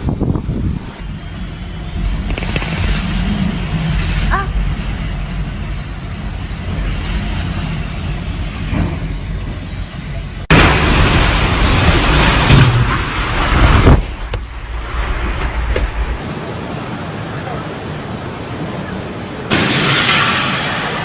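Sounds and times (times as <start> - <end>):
strong wind buffeting microphone: 0.0 - 19.5.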